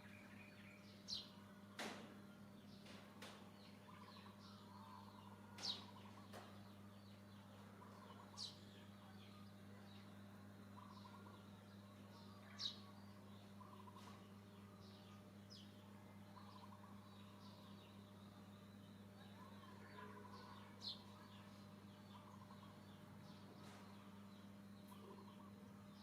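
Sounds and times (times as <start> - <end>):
birdlike chirps and calls: 0.0 - 26.0
steady low hum: 0.0 - 26.0.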